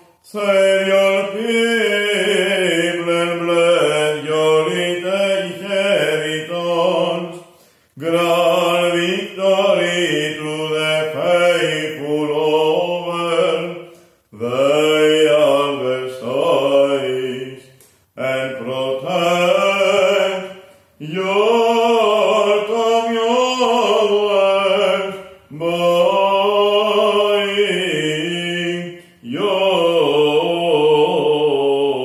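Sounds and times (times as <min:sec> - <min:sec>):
man chanting unaccompanied: 0:00.2 - 0:32.0.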